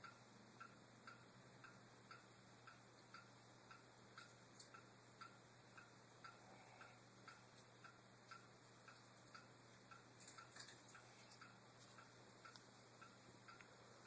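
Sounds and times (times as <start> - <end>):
faint steady ticking: 0.0 - 14.0.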